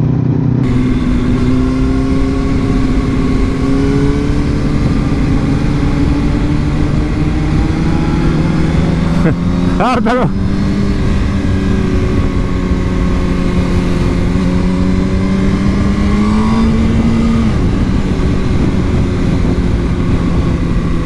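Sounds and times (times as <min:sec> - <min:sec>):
motorcycle engine running: 0:00.0 - 0:21.0
wind rush on microphone: 0:00.0 - 0:21.0.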